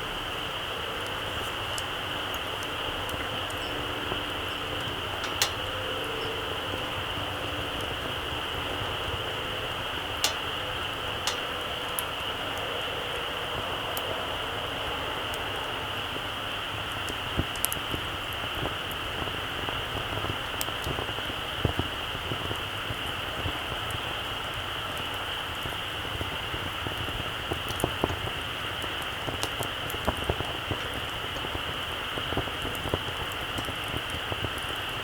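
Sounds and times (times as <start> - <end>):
campfire crackling and popping: 0.0 - 35.0
steady high hiss: 0.0 - 35.0.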